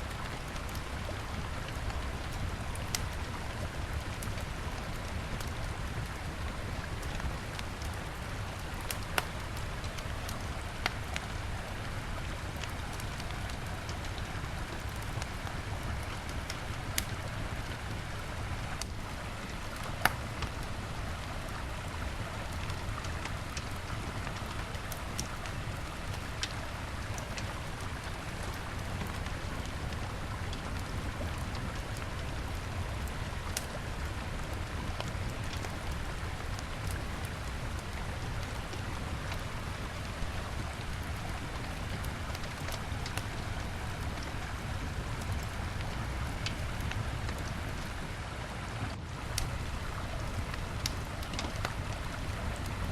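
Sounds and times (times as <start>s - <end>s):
wood fire crackling and popping: 0.1s - 48.2s, 49.2s - 52.9s.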